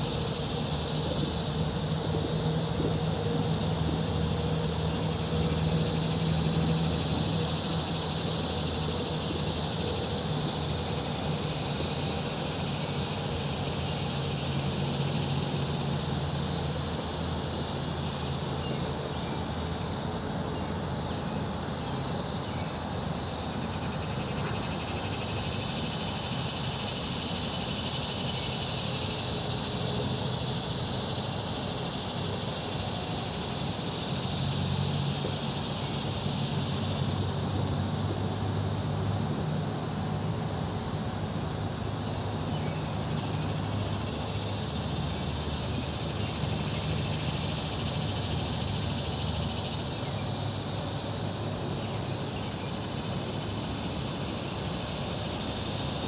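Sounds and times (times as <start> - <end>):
insect chorus: 0.0 - 56.0
low engine hum: 0.0 - 56.0.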